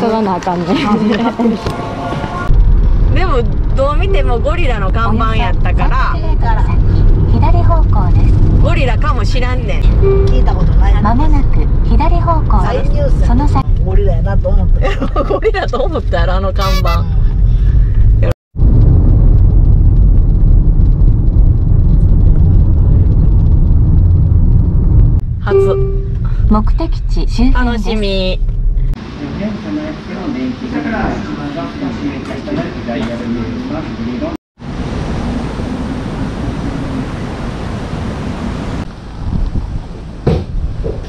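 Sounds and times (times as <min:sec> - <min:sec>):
road noise: 0:00.0 - 0:41.0
wind rush from moving car: 0:01.2 - 0:29.2, 0:34.6 - 0:41.0.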